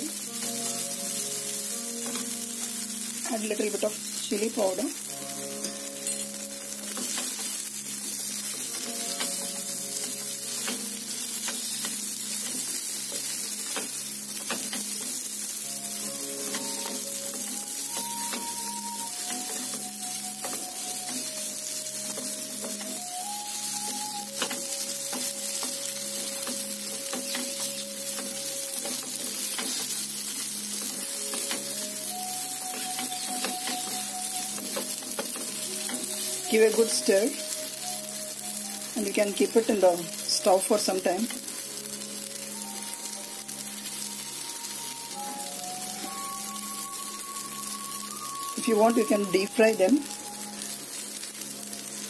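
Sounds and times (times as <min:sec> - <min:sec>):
oil sizzling in a pan: 0:00.0 - 0:52.0.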